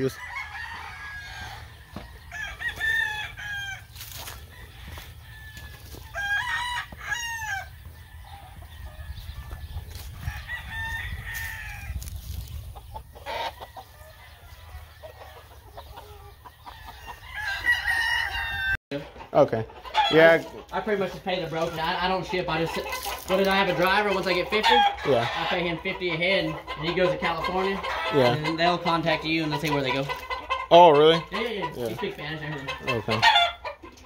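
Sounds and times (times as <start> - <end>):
roosters crowing: 0.0 - 19.1, 19.8 - 34.0.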